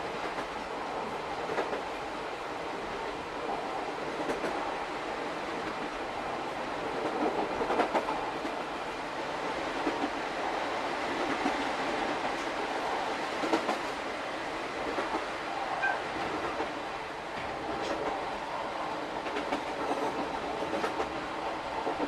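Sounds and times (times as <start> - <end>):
train rolling rumble: 0.0 - 22.0.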